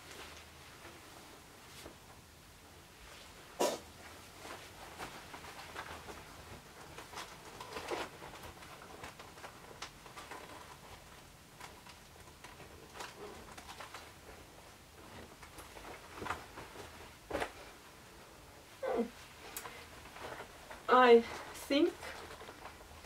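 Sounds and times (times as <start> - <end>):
fabric costume rustling: 0.0 - 23.0.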